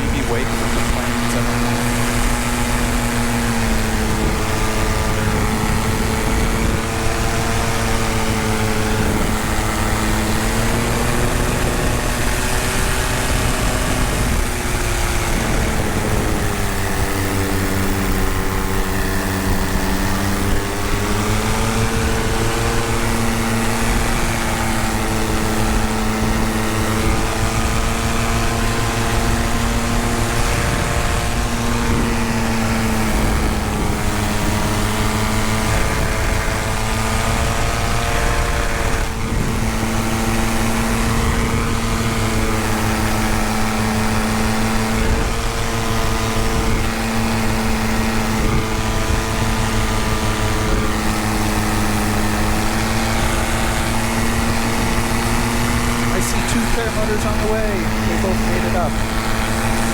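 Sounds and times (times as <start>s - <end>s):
paramotor engine and propeller droning: 0.0s - 59.9s.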